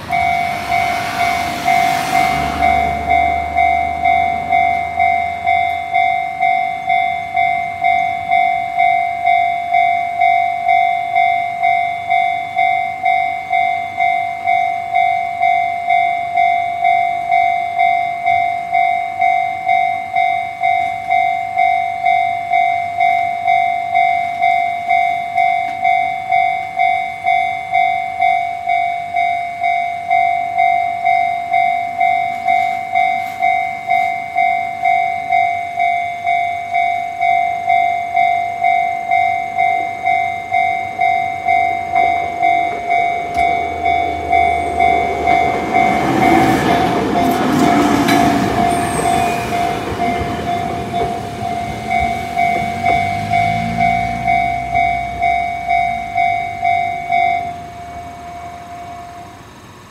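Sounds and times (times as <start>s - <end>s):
level-crossing alarm dinging: 0.0s - 59.9s.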